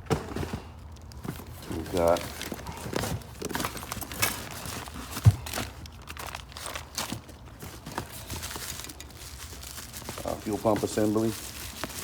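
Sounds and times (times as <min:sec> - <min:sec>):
packaging rustling and clicking: 0:00.0 - 0:12.0.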